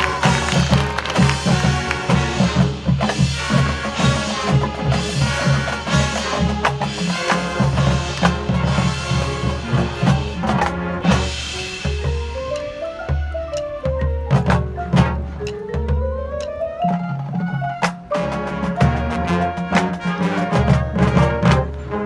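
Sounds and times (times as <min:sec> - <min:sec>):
bass and snare drums beat: 0:00.0 - 0:16.6, 0:17.8 - 0:21.8
marching band playing: 0:00.0 - 0:22.0.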